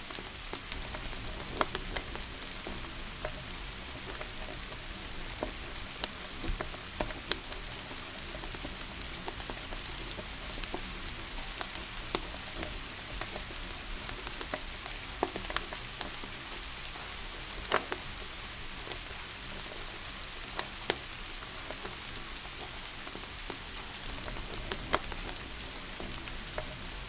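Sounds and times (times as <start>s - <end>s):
rain hiss: 0.0s - 27.0s
wood fire crackling: 0.0s - 27.0s.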